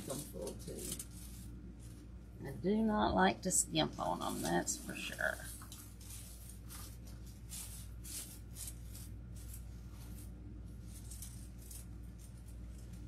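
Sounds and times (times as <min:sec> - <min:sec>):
artificial stems rustling and clicking: 0:00.0 - 0:02.1, 0:03.8 - 0:13.0
low steady hum: 0:00.0 - 0:13.0.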